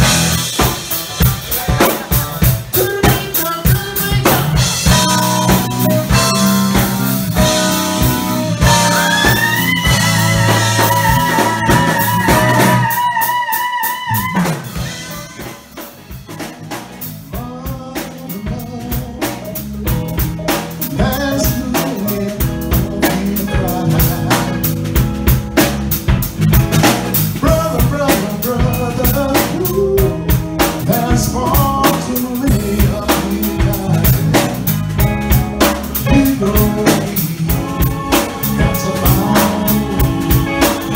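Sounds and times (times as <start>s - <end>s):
live band playing r and b: 0.0s - 40.9s.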